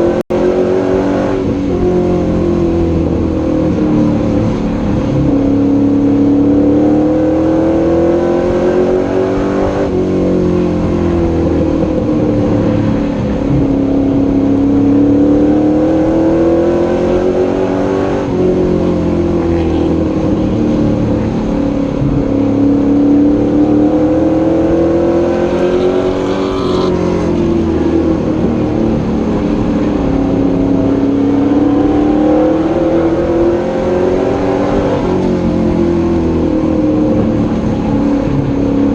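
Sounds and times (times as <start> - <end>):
race truck engine revving: 0.0 - 38.9.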